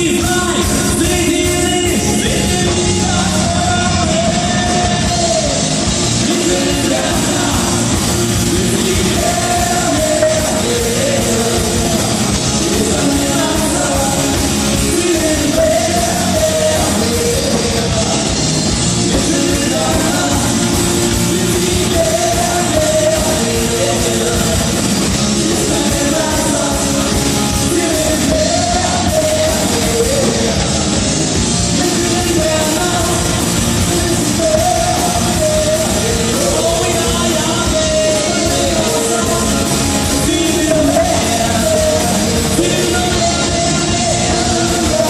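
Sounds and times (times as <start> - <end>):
live rock band with singing: 0.0 - 45.0.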